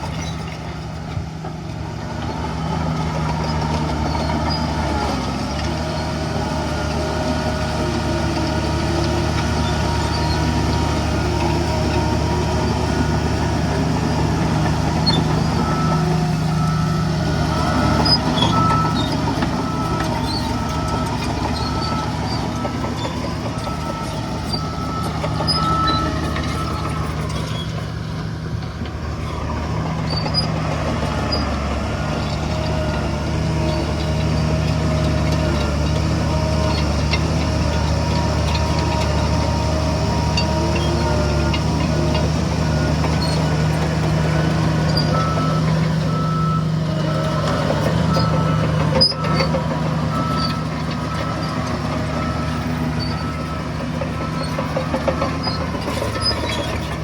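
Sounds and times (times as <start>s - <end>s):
heavy diesel machinery running: 0.0s - 57.0s
reversing alarm beeping: 6.3s - 56.8s.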